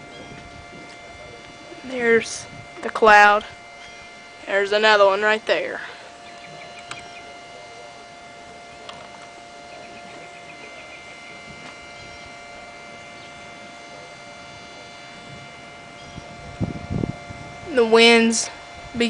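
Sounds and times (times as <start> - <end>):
steady tonal hum: 0.0 - 19.0.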